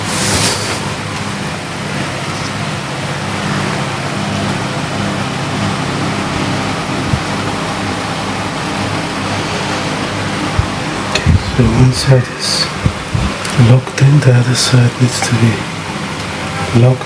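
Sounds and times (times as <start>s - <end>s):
fan running with low hum: 0.0s - 17.0s.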